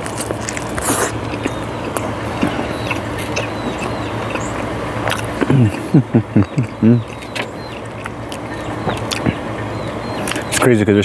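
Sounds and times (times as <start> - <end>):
baby chickens peeping: 0.0 - 11.0
steady low hum: 0.0 - 11.0.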